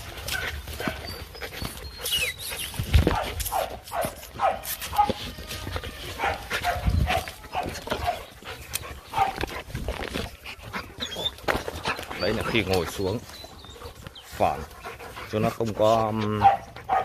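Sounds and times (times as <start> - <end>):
puppies yipping and whining: 0.0 - 17.0.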